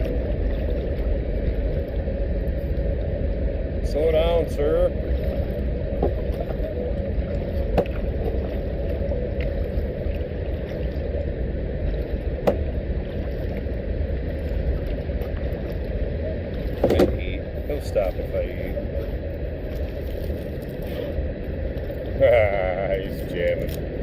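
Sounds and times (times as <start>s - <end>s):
rushing water and air: 0.0s - 24.0s.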